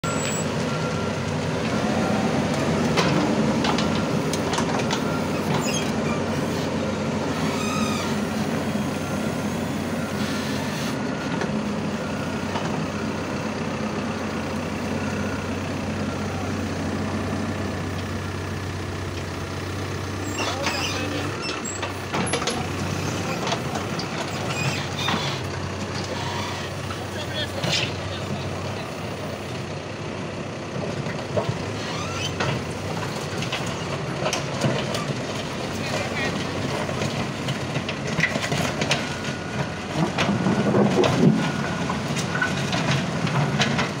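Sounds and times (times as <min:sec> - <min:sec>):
diesel engine driving by: 0:00.0 - 0:44.0.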